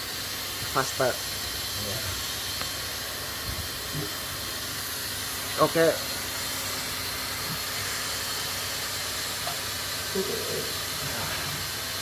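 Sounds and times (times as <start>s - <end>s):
hot-air welder hissing: 0.0s - 12.0s.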